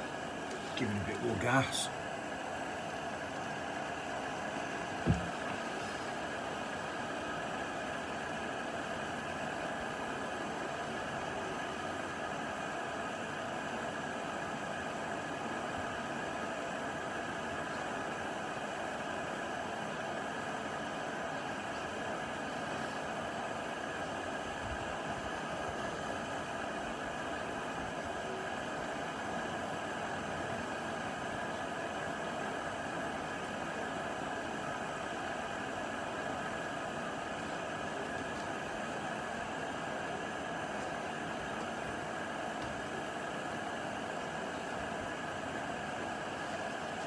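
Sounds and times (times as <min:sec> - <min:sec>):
gas stove burner hiss: 0:00.0 - 0:47.0.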